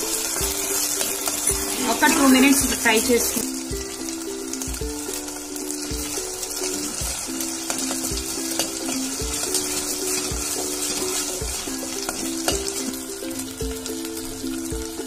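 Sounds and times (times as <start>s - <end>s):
background music with a beat: 0.0s - 15.0s
onions sizzling in hot oil: 0.0s - 15.0s.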